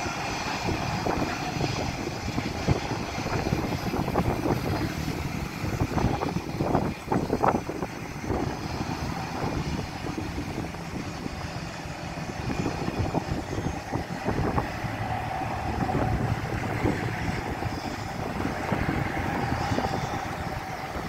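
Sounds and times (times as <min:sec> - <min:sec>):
faint jet engine whine: 0:00.0 - 0:21.0
jet engines rumbling: 0:00.0 - 0:21.0.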